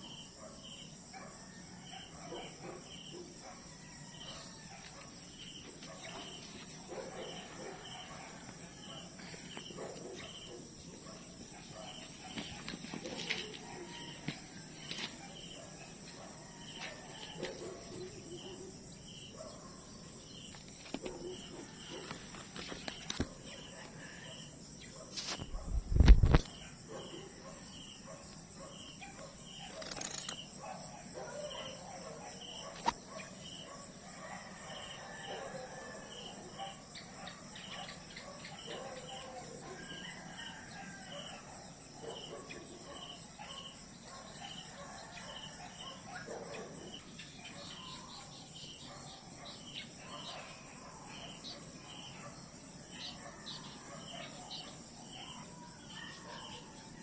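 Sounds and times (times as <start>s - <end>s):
cricket-like chirp: 0.0s - 57.0s
insects droning: 0.0s - 57.0s.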